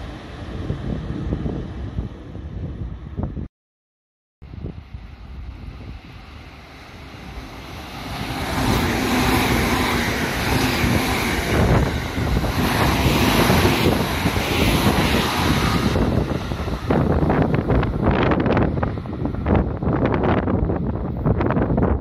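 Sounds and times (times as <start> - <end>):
electric train passing fast: 0.0 - 3.5, 4.5 - 22.0.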